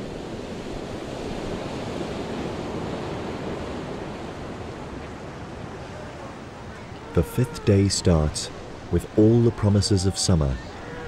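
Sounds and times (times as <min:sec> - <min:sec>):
waves and surf: 0:00.0 - 0:11.0
wind: 0:00.0 - 0:11.0.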